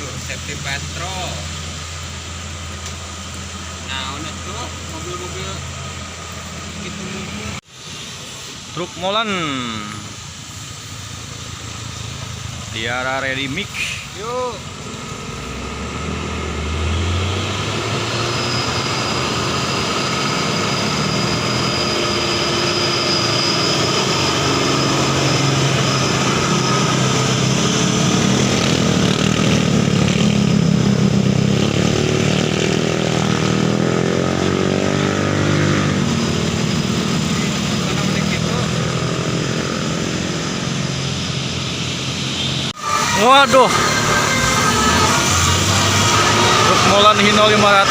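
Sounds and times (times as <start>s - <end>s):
diesel truck engine passing: 0.0s - 47.9s.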